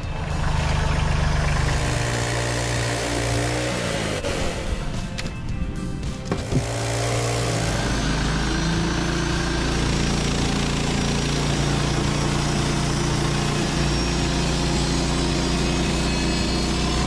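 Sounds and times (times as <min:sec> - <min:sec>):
small petrol engine running: 0:00.0 - 0:05.2, 0:06.2 - 0:17.0
low hum: 0:00.0 - 0:16.9.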